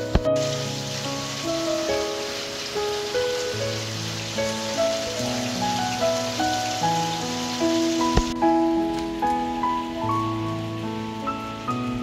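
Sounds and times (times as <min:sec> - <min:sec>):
soft melody of held notes: 0:00.0 - 0:12.0
steady rain falling: 0:00.0 - 0:12.0.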